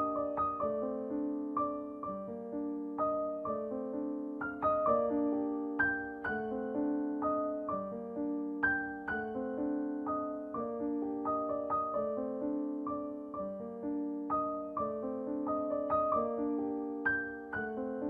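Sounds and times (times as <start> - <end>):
slow gentle piano music: 0.0 - 18.0.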